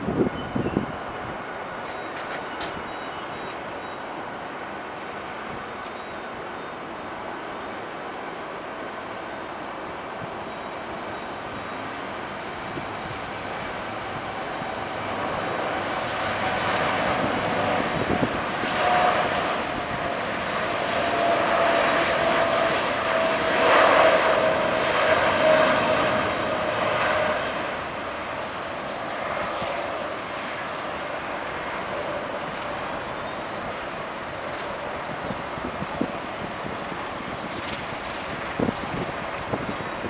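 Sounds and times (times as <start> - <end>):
jet engines at takeoff: 0.0 - 40.0
jet fan tone: 0.0 - 40.0.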